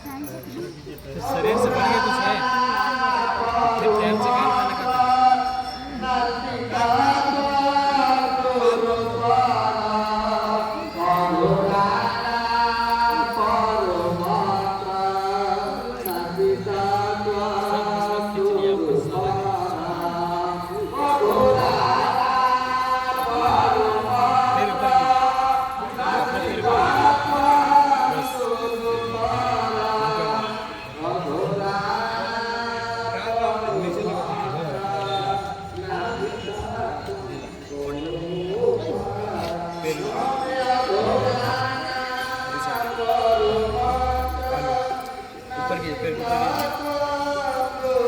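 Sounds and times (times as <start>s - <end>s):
voices chanting: 0.0s - 48.0s.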